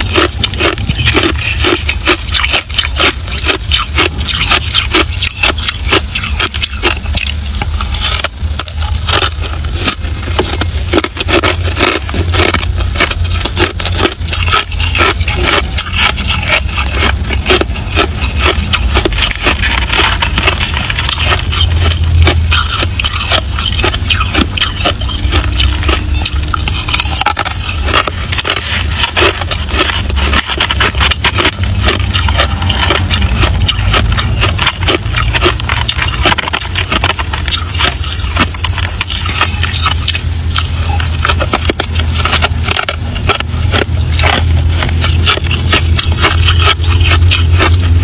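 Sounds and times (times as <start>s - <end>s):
fingers scraping crushed ice: 0.0s - 48.0s
ice being chewed: 0.0s - 48.0s
steady low hum: 0.0s - 48.0s.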